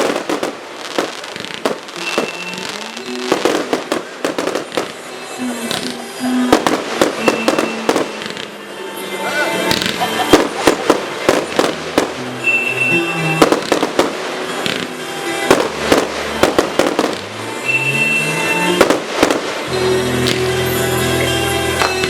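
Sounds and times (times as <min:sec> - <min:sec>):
fireworks bangs: 0:00.0 - 0:08.6, 0:09.7 - 0:17.7, 0:18.5 - 0:20.4
music soundtrack: 0:00.0 - 0:22.0.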